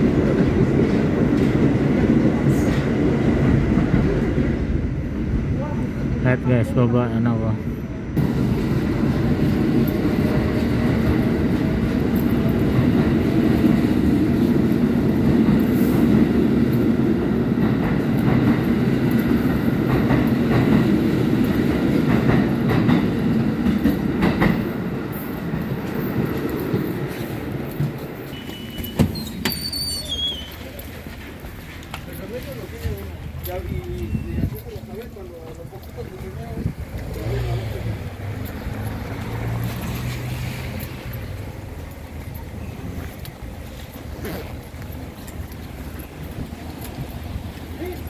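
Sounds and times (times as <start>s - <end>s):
subway train wheel clatter: 0.0s - 48.0s.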